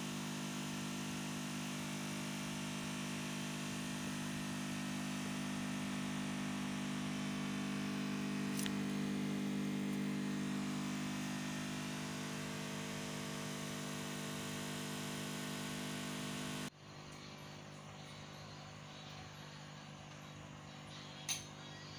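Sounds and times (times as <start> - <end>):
low mechanical hum: 0.0 - 21.9.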